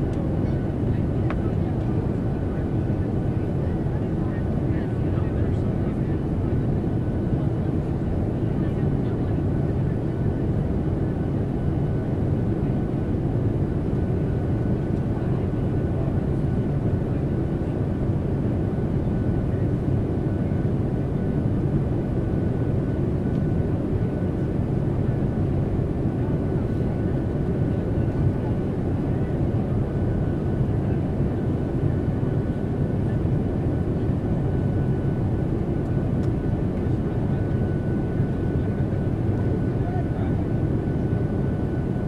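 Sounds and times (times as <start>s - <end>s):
airliner engines and airflow: 0.0s - 42.0s.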